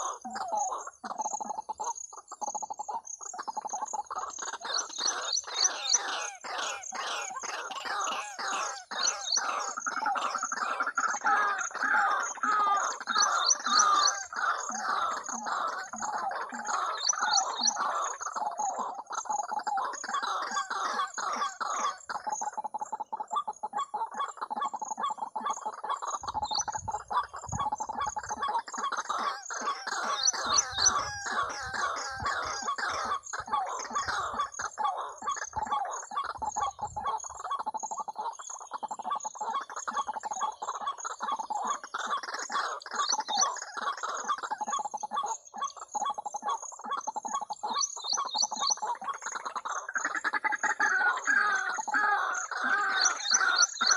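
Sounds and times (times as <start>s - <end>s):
bird clucking calls from speaker: 0.0s - 53.9s.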